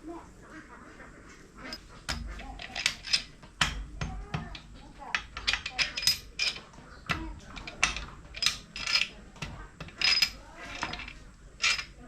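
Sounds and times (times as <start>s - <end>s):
metal tools clinking and clattering: 1.7s - 12.0s.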